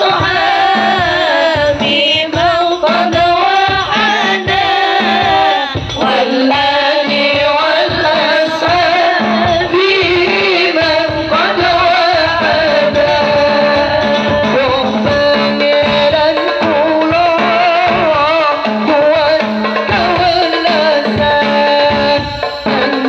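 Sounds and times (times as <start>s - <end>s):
person singing devotional song: 0.0s - 23.0s
steady drum beat: 0.0s - 23.0s.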